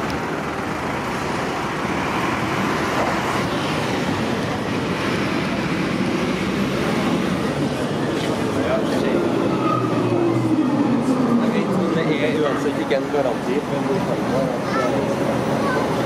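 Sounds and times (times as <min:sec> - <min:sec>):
road traffic noise: 0:00.0 - 0:16.0
tram rolling in: 0:00.0 - 0:16.0.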